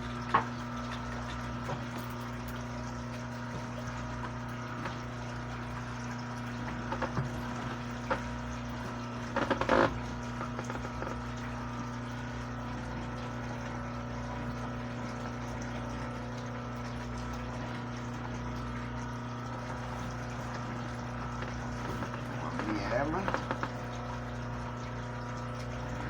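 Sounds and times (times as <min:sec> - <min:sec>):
electrical motor hum: 0:00.0 - 0:26.0.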